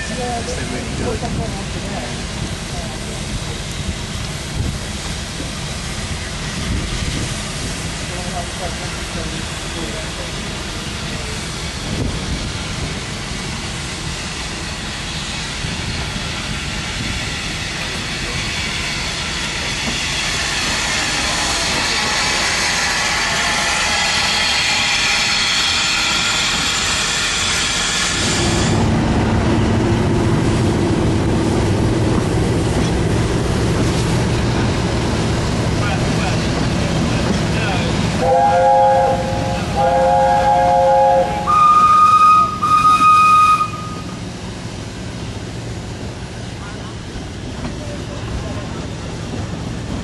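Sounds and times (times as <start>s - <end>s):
railway carriage running on track: 0.0s - 50.0s
steam locomotive hissing: 0.0s - 50.0s.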